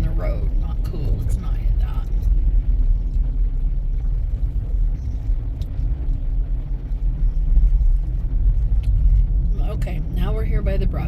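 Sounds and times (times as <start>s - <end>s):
vehicle engine and tyre noise: 0.0s - 11.0s.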